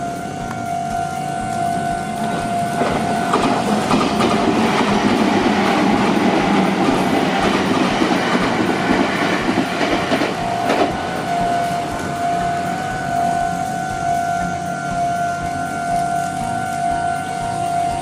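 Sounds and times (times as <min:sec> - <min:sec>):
train wheels rumbling on rail: 0:00.0 - 0:18.0
wheels clicking over rail joints: 0:00.0 - 0:18.0.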